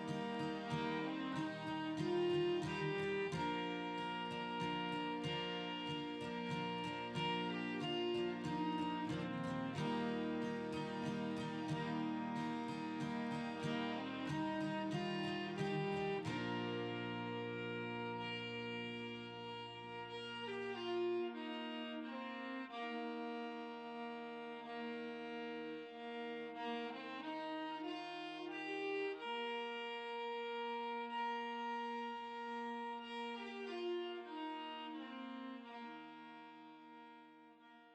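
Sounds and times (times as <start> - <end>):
slow fiddle tune: 0.0 - 37.9.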